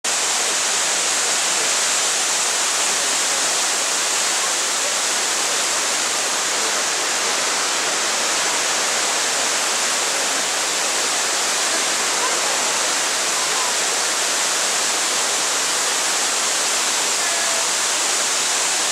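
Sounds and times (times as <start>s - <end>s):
waterfall rushing: 0.1s - 18.9s.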